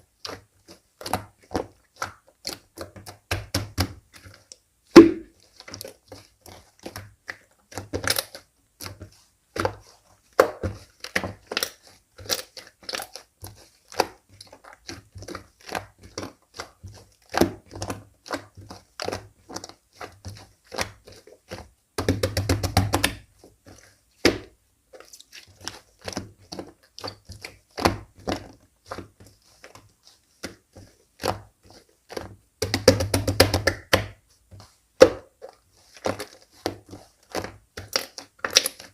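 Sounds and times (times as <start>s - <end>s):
slime clicking and crackling: 0.1s - 38.9s.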